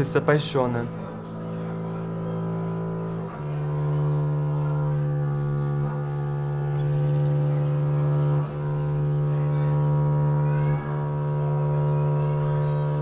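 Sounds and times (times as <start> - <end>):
double bass bowed notes: 0.0 - 13.0.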